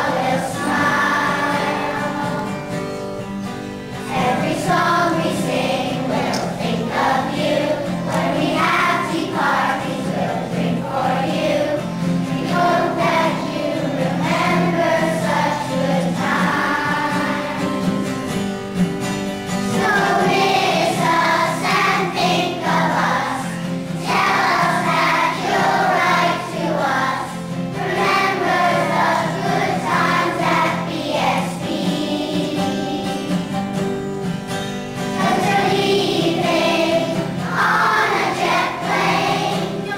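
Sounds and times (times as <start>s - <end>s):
children's choir singing: 0.0s - 3.2s, 3.9s - 18.5s, 19.6s - 34.0s, 35.0s - 39.9s
acoustic guitar: 0.0s - 39.9s.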